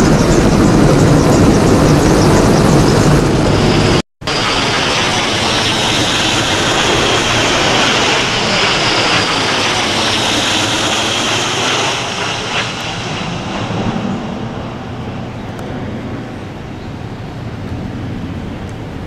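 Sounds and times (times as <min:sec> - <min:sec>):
military aircraft flying overhead: 0:00.0 - 0:19.0.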